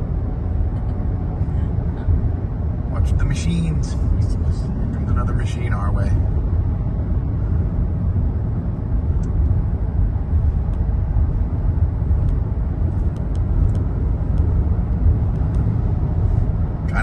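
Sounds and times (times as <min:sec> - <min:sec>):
road and engine rumble inside vehicle: 0:00.0 - 0:17.0.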